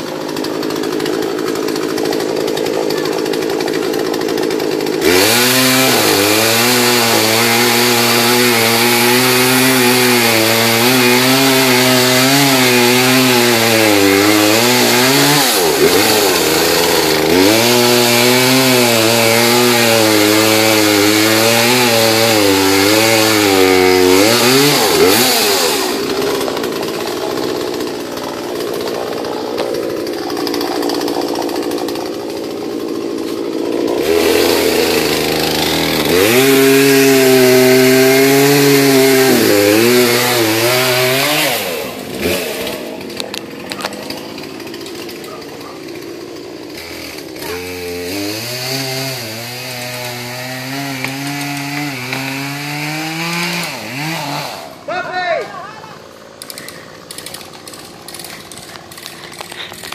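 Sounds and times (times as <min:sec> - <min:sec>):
chainsaw cutting into tree trunk: 0:00.0 - 0:55.3, 0:56.0 - 0:59.9.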